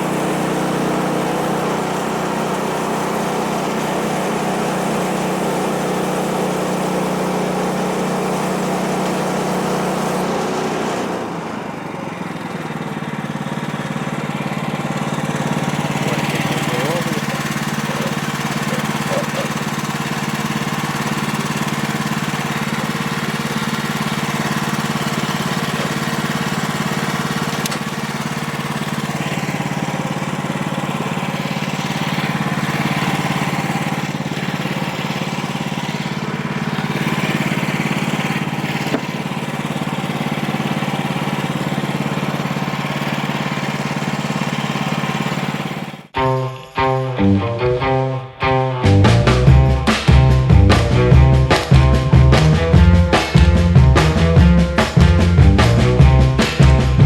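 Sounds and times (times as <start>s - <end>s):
sawmill gasoline engine running: 0.0s - 57.0s.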